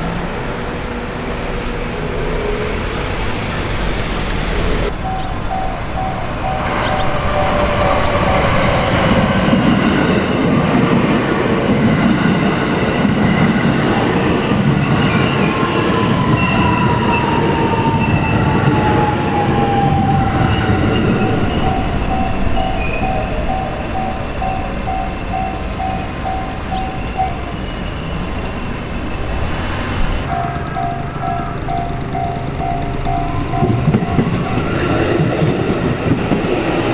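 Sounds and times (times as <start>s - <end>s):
crossing warning bell: 0.0s - 36.9s
train wheels rumbling on rails: 0.0s - 36.9s.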